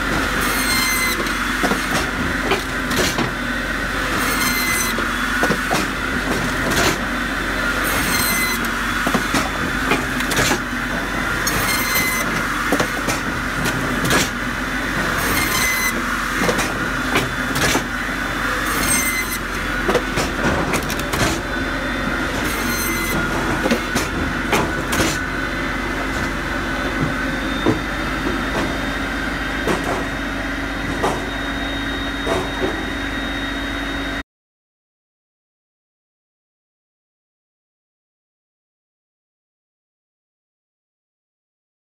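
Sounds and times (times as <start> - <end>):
firewood processor drone: 0.0 - 34.2.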